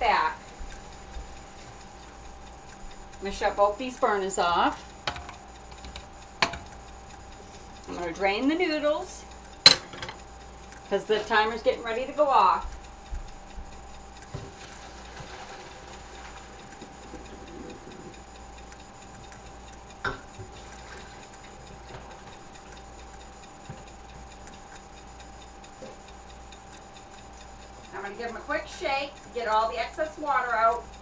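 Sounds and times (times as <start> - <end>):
electrical hum: 0.0 - 31.0
faint steady ticking: 0.0 - 31.0.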